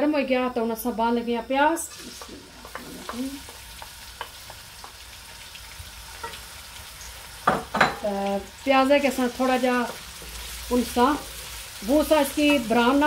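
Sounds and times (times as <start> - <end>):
onion sizzling in hot oil: 0.6 - 13.0.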